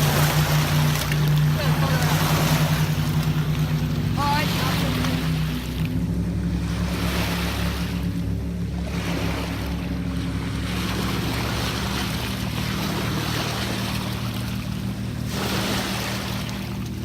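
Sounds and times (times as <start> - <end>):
steady low drone: 0.0 - 17.0
waves washing against rocks: 0.0 - 17.0.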